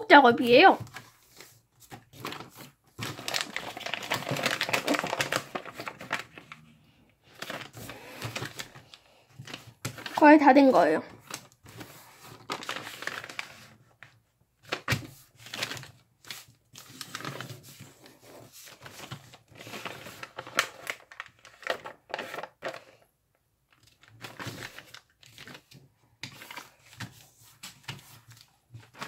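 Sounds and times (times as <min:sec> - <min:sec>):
paper rustling and crackling: 0:00.4 - 0:23.0, 0:23.7 - 0:29.0.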